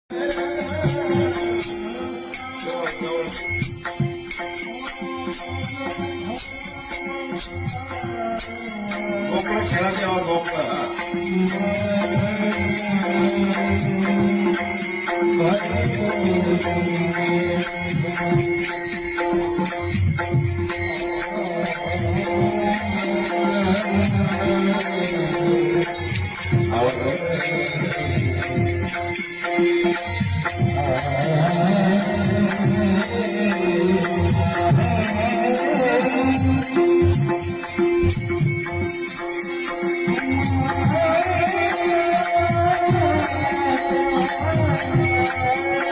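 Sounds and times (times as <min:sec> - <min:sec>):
man singing: 0:00.0 - 0:45.9
jingling bells: 0:00.1 - 0:45.9
percussion beat: 0:00.1 - 0:45.9.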